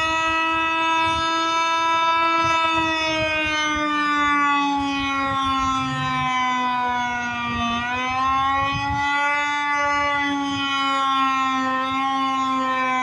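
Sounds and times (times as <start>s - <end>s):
warning siren sliding tone: 0.0s - 13.0s.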